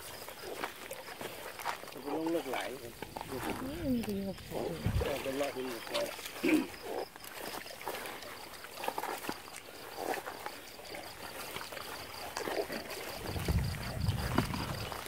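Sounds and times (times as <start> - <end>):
wading splashes in water: 0.0 - 15.0.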